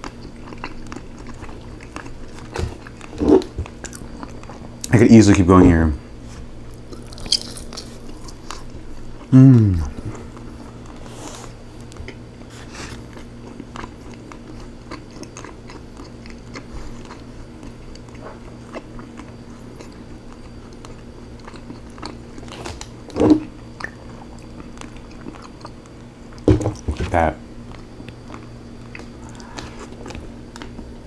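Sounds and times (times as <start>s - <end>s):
person chewing: 0.0s - 4.9s, 6.5s - 26.5s, 27.7s - 30.9s
steady low hum: 0.0s - 31.0s.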